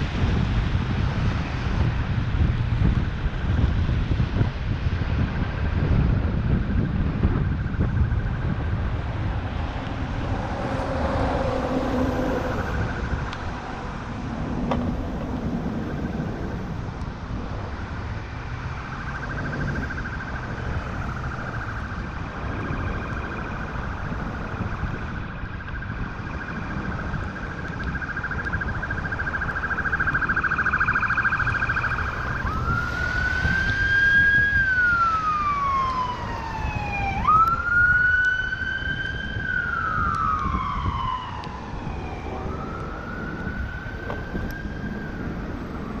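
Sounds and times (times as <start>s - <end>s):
emergency vehicle siren: 0.0s - 46.0s
traffic rumble: 0.0s - 46.0s
wind rumble: 0.0s - 46.0s.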